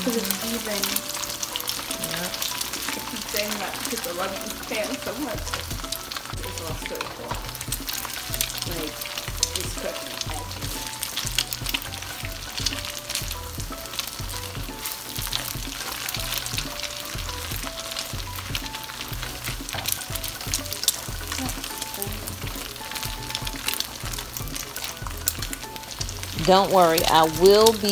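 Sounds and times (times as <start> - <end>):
eggs sizzling in hot oil: 0.0 - 27.9
spatula stirring and chopping: 0.0 - 27.9.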